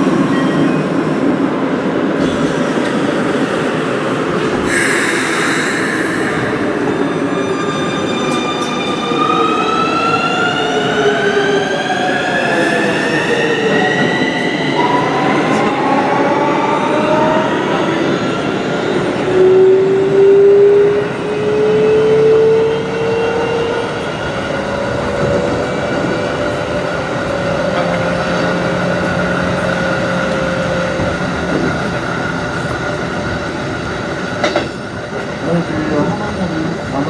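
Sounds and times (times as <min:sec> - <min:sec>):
rail noise: 0:00.0 - 0:37.0.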